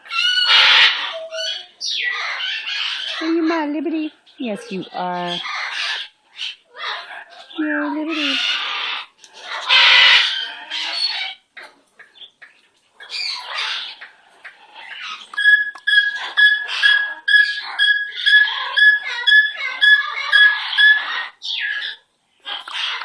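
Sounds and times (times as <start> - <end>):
bird squawk: 0.0 - 3.3, 5.3 - 11.7, 13.0 - 23.0
bird calls: 4.3 - 23.0.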